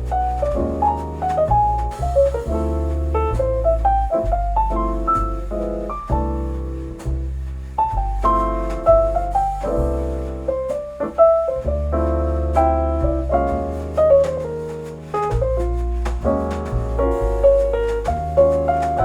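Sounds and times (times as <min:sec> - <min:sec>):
jazzy piano music: 0:00.0 - 0:19.0.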